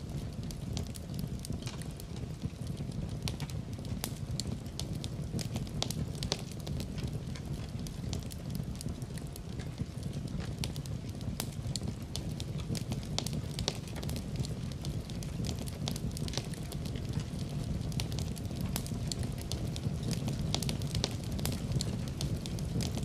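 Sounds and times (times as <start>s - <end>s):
fire popping and snapping: 0.0s - 23.0s
low rumble of flames: 0.0s - 23.0s.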